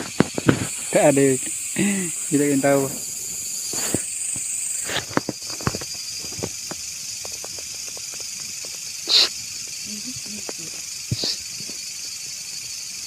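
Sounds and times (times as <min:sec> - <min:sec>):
wood bonfire crackling: 0:00.0 - 0:12.6
fire hissing: 0:00.0 - 0:13.0.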